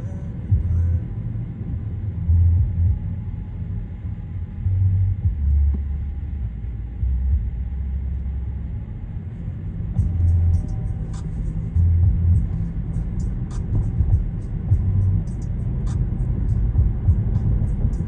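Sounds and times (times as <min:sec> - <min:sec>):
road and engine rumble inside car: 0:00.0 - 0:18.0.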